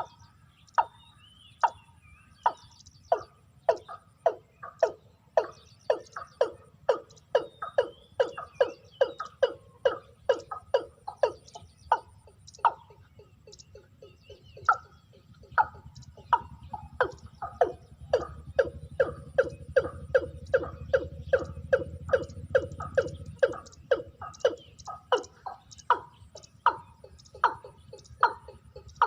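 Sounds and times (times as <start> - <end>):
watercock calling: 0.0 - 29.0.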